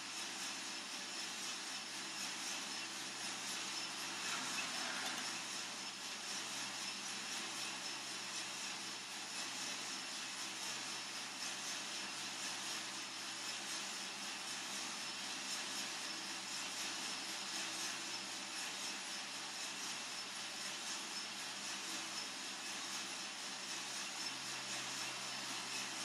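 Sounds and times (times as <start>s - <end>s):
coffee roaster hissing and humming: 0.0s - 26.0s.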